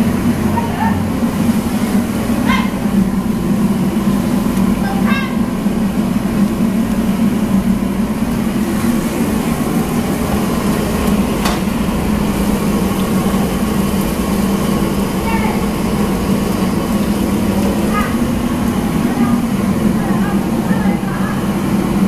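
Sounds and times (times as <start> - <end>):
kitchen machinery droning: 0.0 - 22.0.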